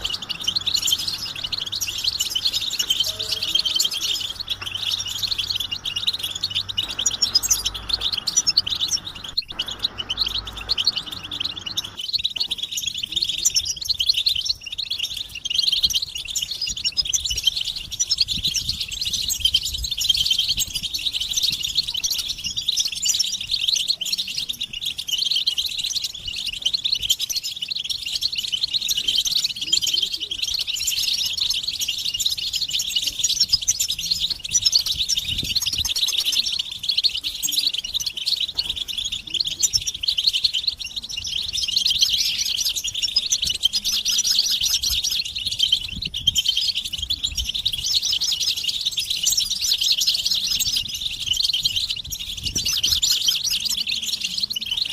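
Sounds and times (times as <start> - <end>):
finches twittering and chirping: 0.0 - 54.9.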